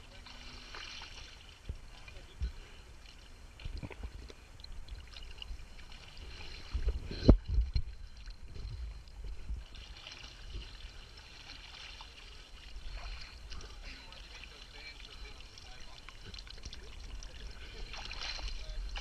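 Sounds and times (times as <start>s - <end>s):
small waves lapping: 0.0s - 19.0s.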